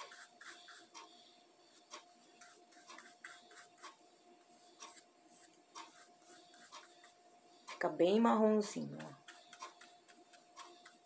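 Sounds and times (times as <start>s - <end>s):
paintbrush strokes on cardboard: 0.0s - 4.0s, 4.6s - 7.9s, 8.7s - 11.0s.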